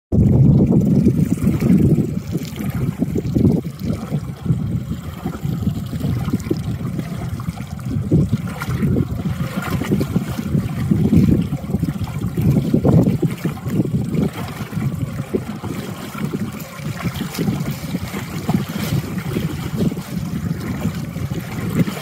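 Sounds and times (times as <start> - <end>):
water splashing against boat: 0.1 - 22.0
wind buffeting microphone: 0.1 - 22.0.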